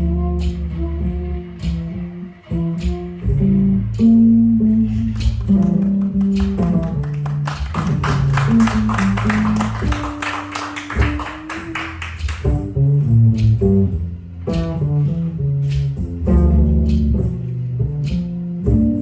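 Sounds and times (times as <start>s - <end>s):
bass line: 0.0s - 19.0s.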